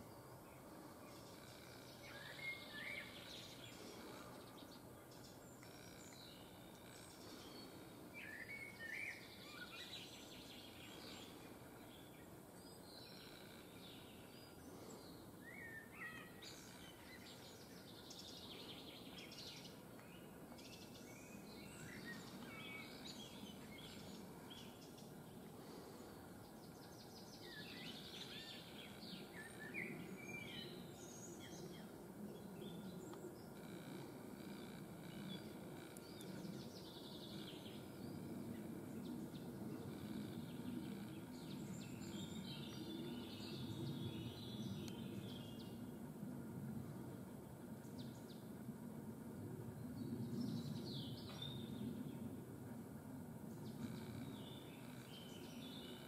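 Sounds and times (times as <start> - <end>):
low outdoor background noise: 0.0 - 56.0.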